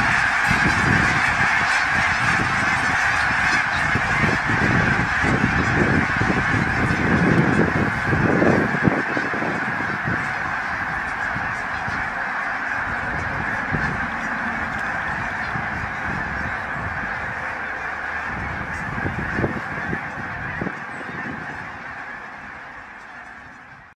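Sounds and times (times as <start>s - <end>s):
flock of geese honking: 0.0s - 23.9s.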